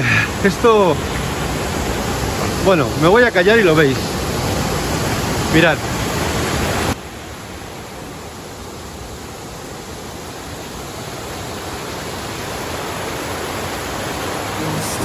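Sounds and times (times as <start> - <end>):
fast stream rushing: 0.0 - 15.0.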